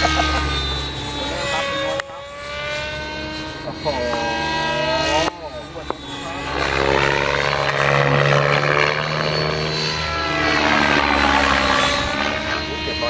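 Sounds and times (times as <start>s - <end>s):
helicopter motor whine: 0.0s - 13.0s
rotor blades swishing: 0.0s - 13.0s.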